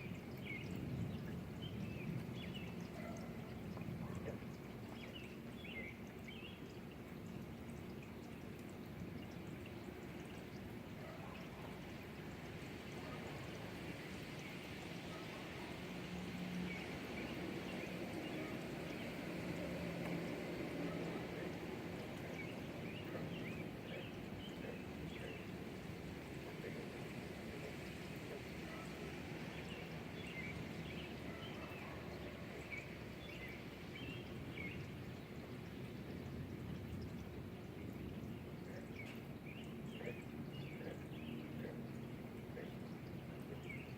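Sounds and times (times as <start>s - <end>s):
birds chirping: 0.0s - 43.9s
low background noise: 0.0s - 43.9s
steady rain falling: 0.0s - 43.9s.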